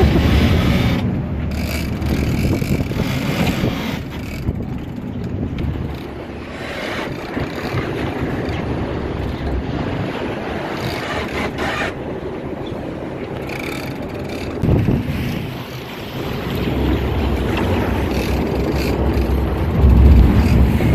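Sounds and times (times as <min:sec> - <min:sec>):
boat engine running: 0:00.0 - 0:20.9
wind buffeting microphone: 0:00.0 - 0:20.9.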